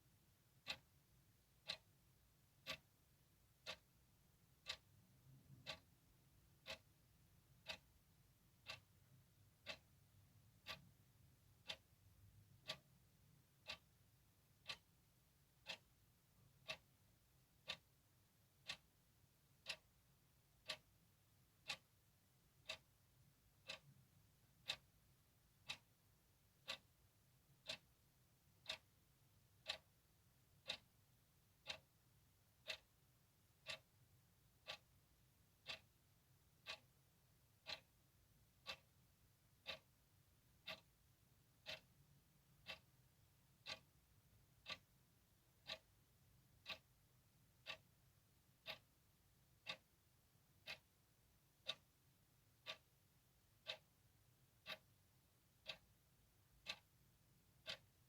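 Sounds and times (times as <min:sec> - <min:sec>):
clock ticking: 0:00.1 - 0:58.0.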